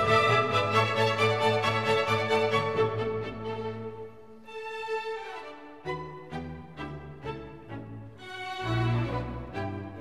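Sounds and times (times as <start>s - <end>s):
instrumental music with held notes: 0.0s - 10.0s.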